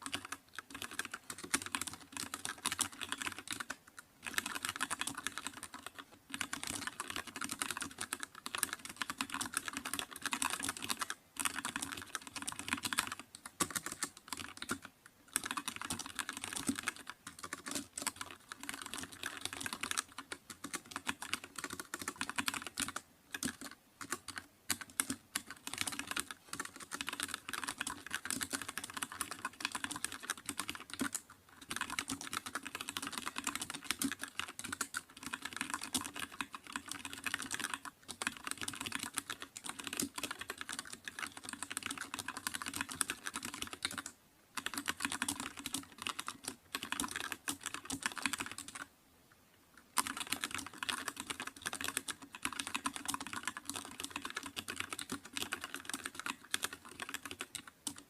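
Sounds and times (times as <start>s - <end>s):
fast typing on keyboard: 0.0s - 48.9s, 49.9s - 58.0s.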